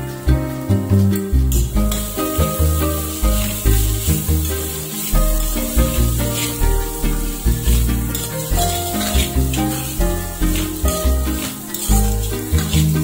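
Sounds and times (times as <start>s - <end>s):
food sizzling: 0.0s - 13.0s
music with bass beat: 0.0s - 13.0s
spoon stirring in pan: 1.8s - 13.0s.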